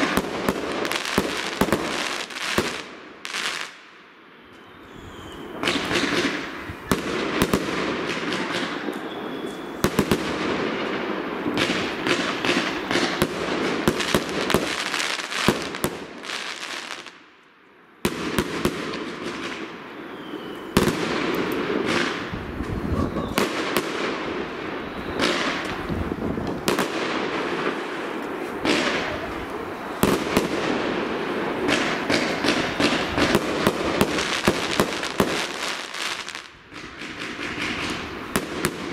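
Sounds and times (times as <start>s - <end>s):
fireworks bangs and crackling: 0.0s - 17.4s, 18.0s - 38.9s.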